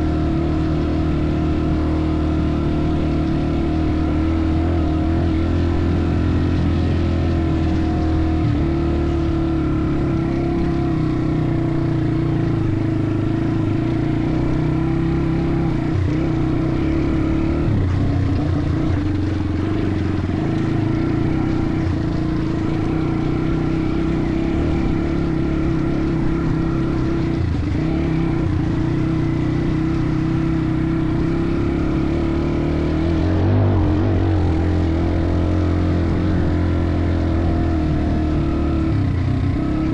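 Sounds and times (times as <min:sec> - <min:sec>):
off-road motorcycle engine running: 0:00.0 - 0:39.9
wind: 0:00.0 - 0:39.9.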